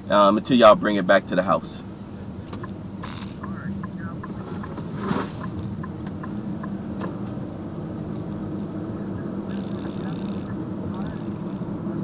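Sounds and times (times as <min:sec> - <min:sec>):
vehicle engine idling: 0:00.8 - 0:12.0.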